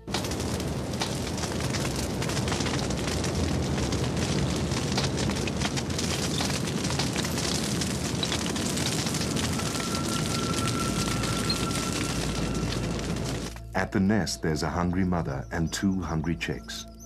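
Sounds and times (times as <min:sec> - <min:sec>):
wildfire flames rushing: 0:00.0 - 0:13.8
fire crackles and pops: 0:00.0 - 0:14.3.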